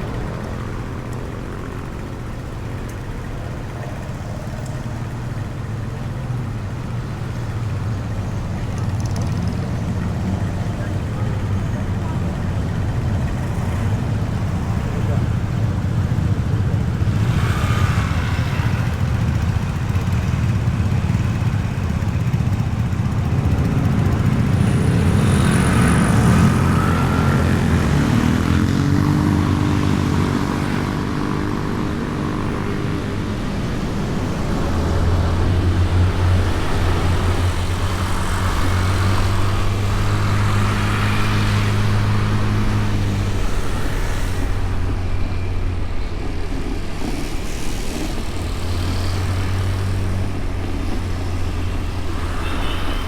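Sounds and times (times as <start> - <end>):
scooter engine running: 0.0 - 53.0.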